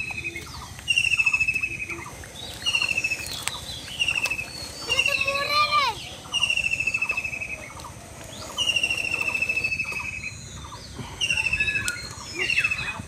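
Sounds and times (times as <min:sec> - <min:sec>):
bird trilling: 0:00.0 - 0:13.0.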